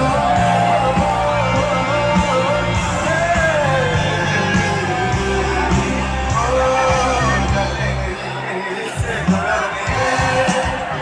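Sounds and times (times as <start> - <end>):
drums: 0.0 - 11.0
guitars: 0.0 - 11.0
keyboards: 0.0 - 11.0
man singing: 0.0 - 11.0.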